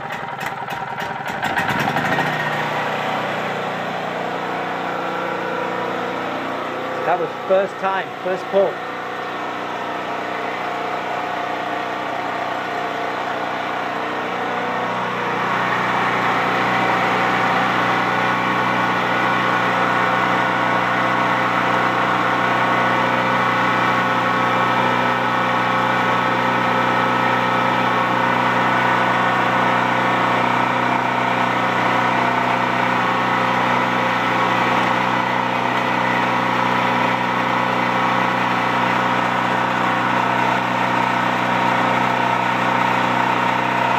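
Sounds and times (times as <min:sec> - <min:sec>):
generator engine running: 0:00.0 - 0:43.9.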